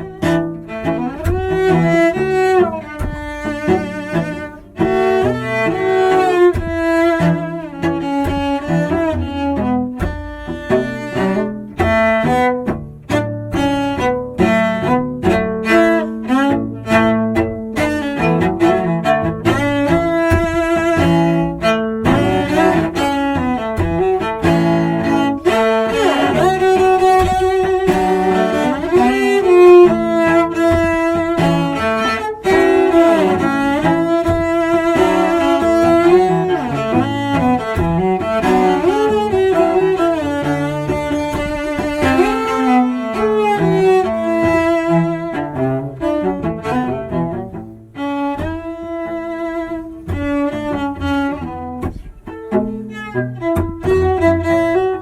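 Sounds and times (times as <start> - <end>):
cellos playing bluesy duet: 0.0 - 55.0.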